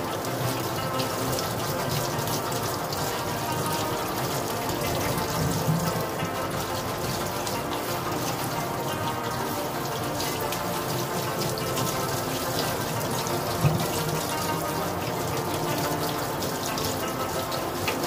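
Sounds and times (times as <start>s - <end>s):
faucet running: 0.0s - 18.0s.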